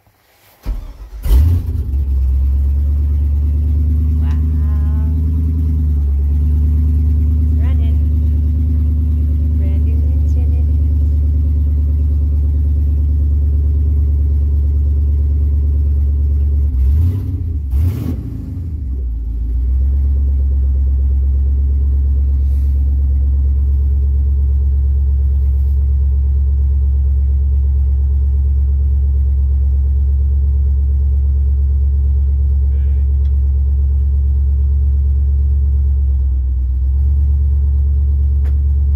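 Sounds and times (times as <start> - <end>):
engine running with low drone: 0.6 - 38.9.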